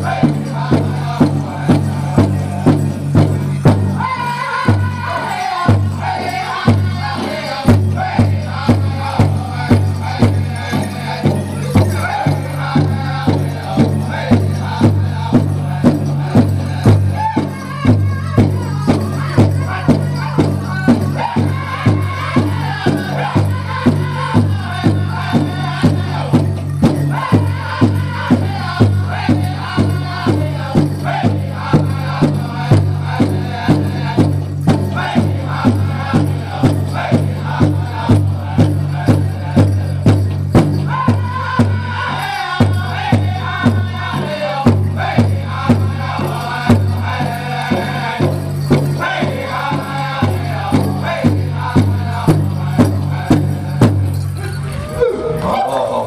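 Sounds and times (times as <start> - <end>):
group singing in high voices: 0.0 - 2.9, 3.6 - 56.0
large drum beating: 0.0 - 54.2.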